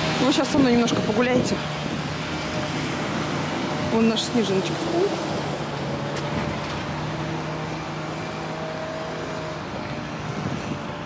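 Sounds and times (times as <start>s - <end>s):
outdoor background noise: 0.0s - 11.0s
vehicle engine humming: 0.0s - 11.0s.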